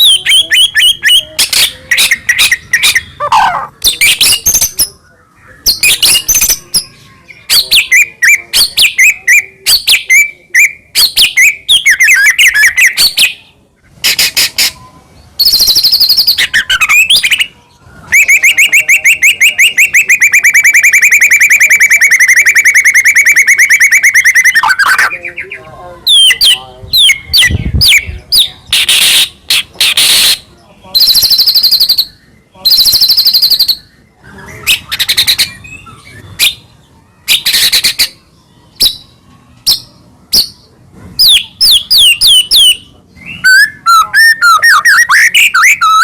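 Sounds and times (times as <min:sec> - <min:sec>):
songbird singing whistles and trills: 0:00.0 - 0:46.0.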